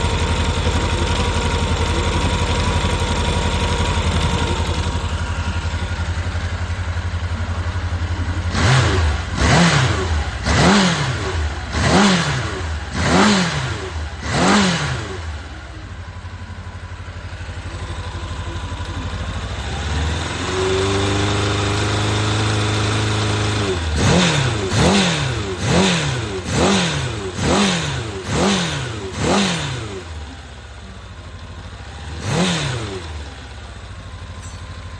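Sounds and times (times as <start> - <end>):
motorcycle engine idling: 0.0 - 34.9
motorcycle engine revving: 0.0 - 34.9.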